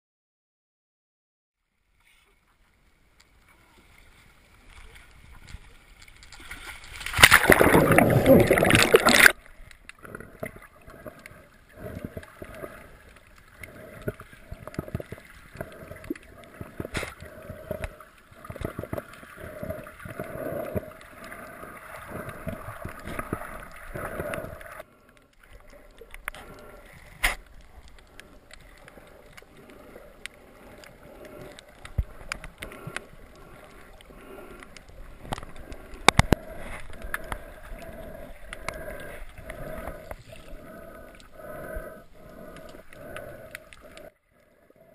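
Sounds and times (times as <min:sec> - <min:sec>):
muffled water sloshing underwater: 0:01.6 - 0:44.9.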